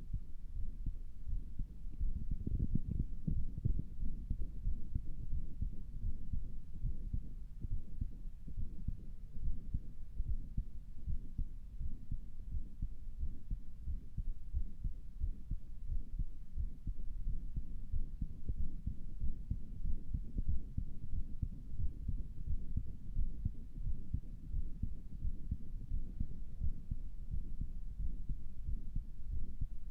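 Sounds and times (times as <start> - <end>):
heartbeat through stethoscope: 0.0 - 29.9.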